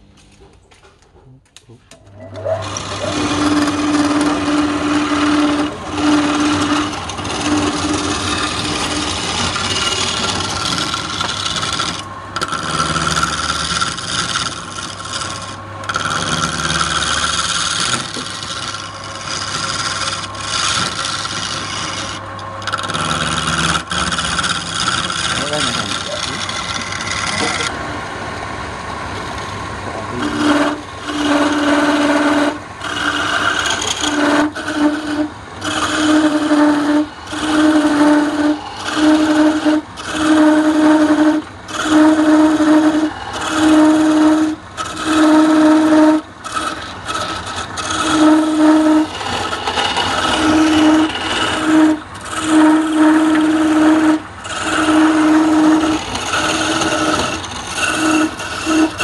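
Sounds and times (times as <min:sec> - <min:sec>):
lathe running: 0:02.0 - 0:59.0
chisel cutting wood on lathe: 0:02.2 - 0:27.9, 0:28.9 - 0:59.0.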